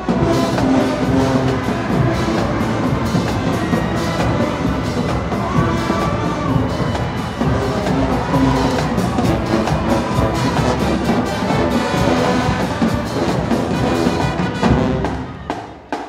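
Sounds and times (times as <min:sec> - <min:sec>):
drum hits: 0:00.0 - 0:16.0
marching band playing: 0:00.0 - 0:16.0.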